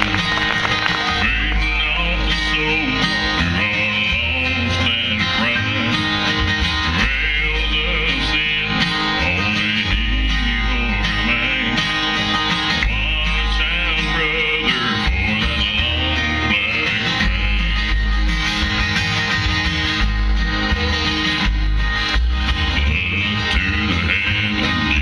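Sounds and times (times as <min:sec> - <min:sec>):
acoustic guitar: 0:00.0 - 0:25.0
bluegrass band playing: 0:00.0 - 0:25.0
plucked bass line: 0:00.0 - 0:25.0.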